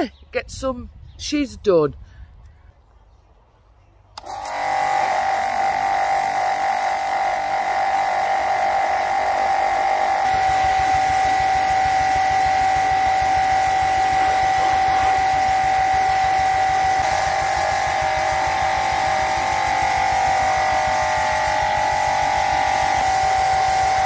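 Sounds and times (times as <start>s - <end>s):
pressure washer motor hum: 4.2s - 24.0s
water jet hissing: 4.2s - 24.0s.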